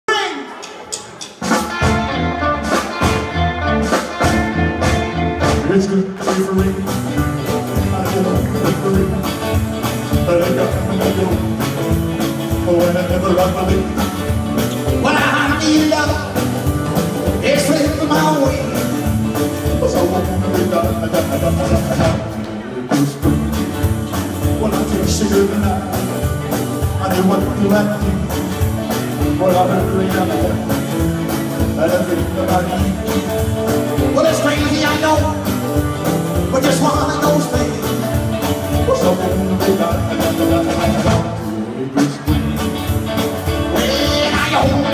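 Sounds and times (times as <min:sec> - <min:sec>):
live rock and roll band: 0:00.1 - 0:44.9
man singing lead vocal: 0:05.4 - 0:23.7, 0:24.4 - 0:31.0, 0:31.6 - 0:42.6, 0:43.5 - 0:44.9.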